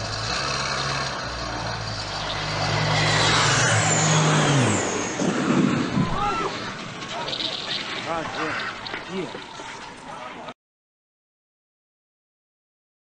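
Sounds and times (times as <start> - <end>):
broad rushing noise: 0.0 - 10.5.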